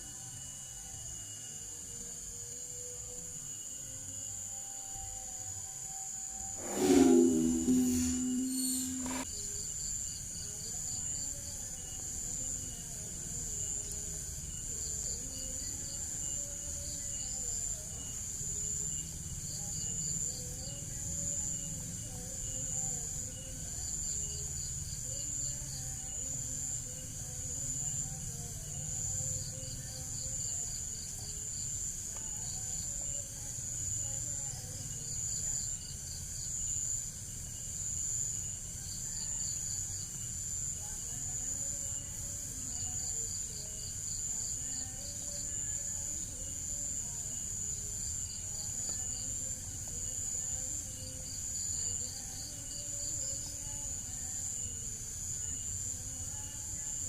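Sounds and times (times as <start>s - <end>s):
insect pulsed trills: 0.0s - 57.0s
insects droning: 0.0s - 57.0s.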